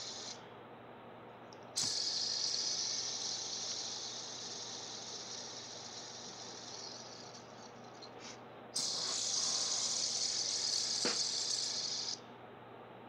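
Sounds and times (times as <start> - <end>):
fidget spinner whirring: 0.0 - 0.4, 1.8 - 12.2.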